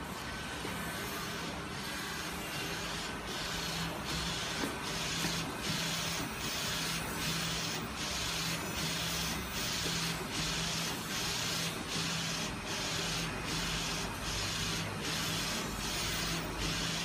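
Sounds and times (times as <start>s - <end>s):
printer carriage whirring: 0.0s - 17.0s.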